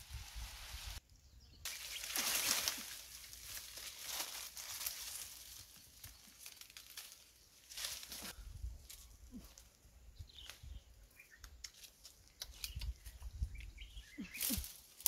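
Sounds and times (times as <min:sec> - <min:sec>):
leaves and branches rustling: 0:00.0 - 0:01.0, 0:01.6 - 0:15.0.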